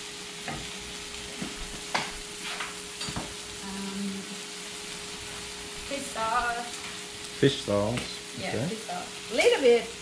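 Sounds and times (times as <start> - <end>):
meat and onions sizzling in pan: 0.0 - 10.0.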